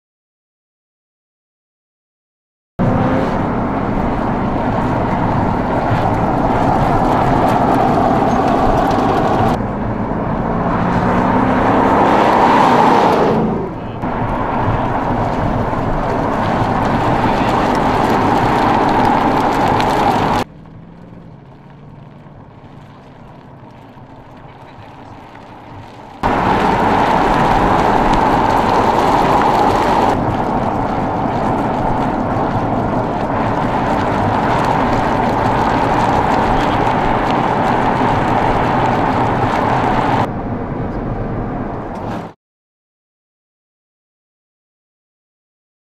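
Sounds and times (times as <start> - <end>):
car driving at speed: 2.8 - 42.4.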